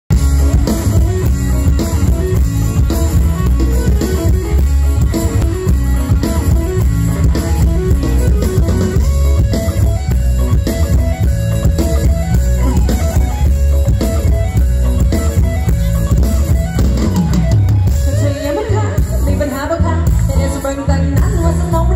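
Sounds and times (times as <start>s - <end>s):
bass: 0.1s - 21.9s
drum kit: 0.1s - 21.9s
electric guitar: 0.1s - 21.9s
live band music over loudspeakers: 0.1s - 21.9s.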